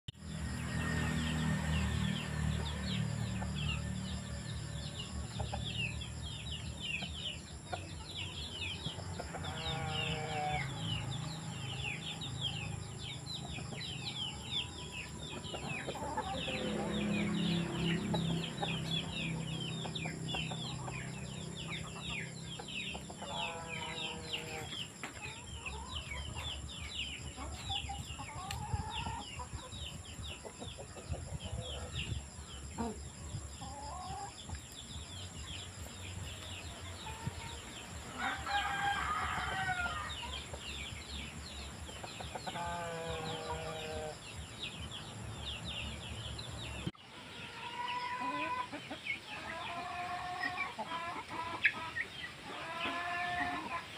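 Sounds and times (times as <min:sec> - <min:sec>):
chickens clucking: 0:00.5 - 0:53.9.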